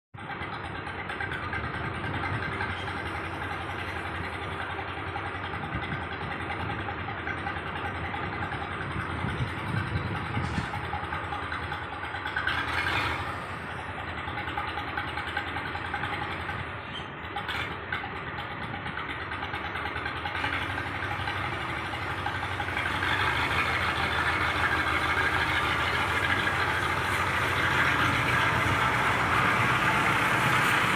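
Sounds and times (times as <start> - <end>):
tractor engine running: 0.1 - 30.9.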